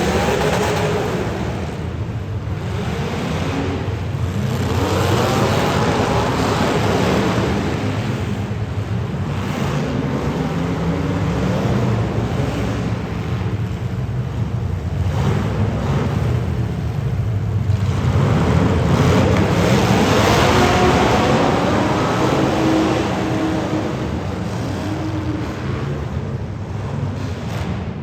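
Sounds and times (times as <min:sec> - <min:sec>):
race car engines running: 0:00.0 - 0:28.0.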